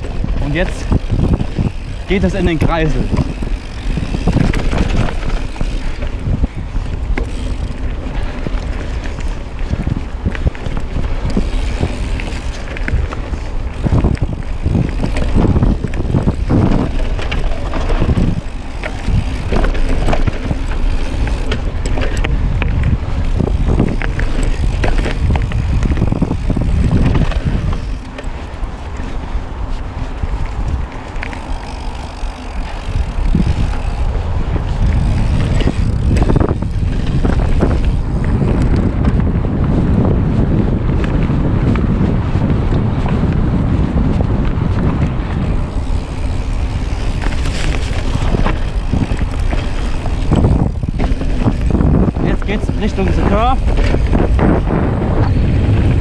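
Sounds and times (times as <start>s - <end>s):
bike rattling and knocking: 0.0s - 56.0s
wind rushing over microphone: 0.0s - 56.0s.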